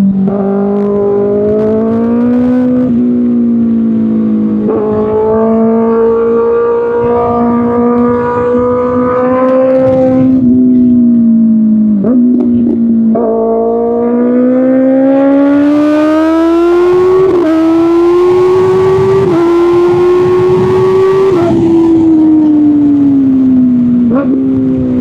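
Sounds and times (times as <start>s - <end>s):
wind rush: 0.0s - 13.2s, 13.9s - 25.0s
motorcycle engine accelerating: 0.0s - 25.0s.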